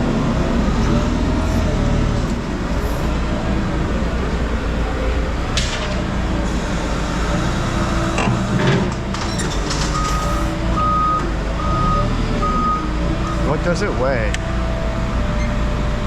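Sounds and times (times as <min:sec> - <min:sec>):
heavy machine engine rumbling: 0:00.0 - 0:16.0.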